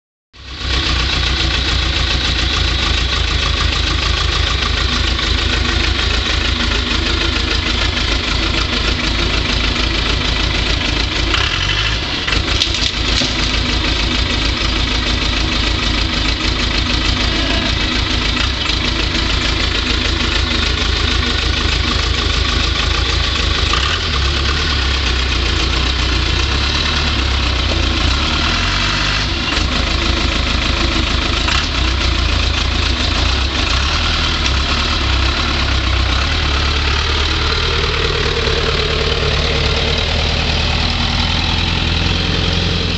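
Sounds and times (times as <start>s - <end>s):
diesel engine clattering: 0.4s - 42.9s.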